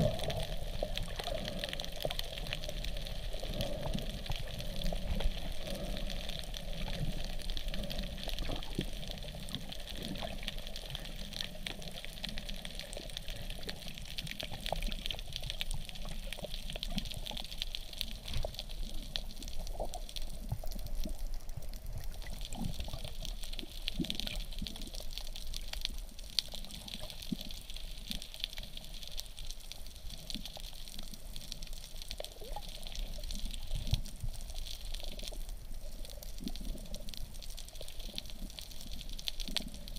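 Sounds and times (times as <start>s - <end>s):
faint clicks and crackles: 0.0s - 39.9s
underwater water noise: 0.0s - 39.9s.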